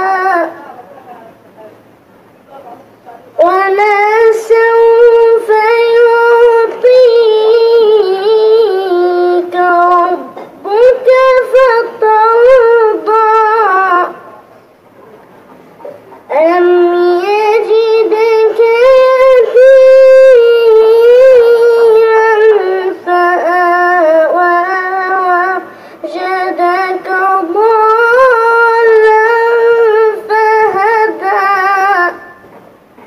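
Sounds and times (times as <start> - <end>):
boy reciting melodically: 0.0 - 2.0, 2.6 - 14.5, 15.8 - 32.5.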